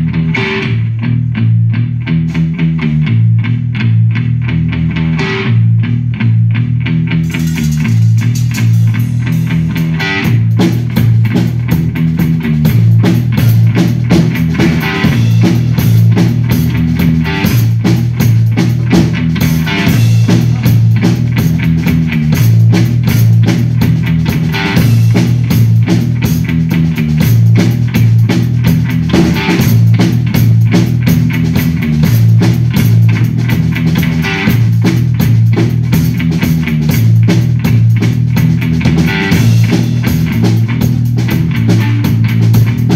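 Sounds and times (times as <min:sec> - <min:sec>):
electric bass guitar riff: 0:00.0 - 0:42.9
drum kit beat with cymbals: 0:02.2 - 0:03.0, 0:07.1 - 0:42.9.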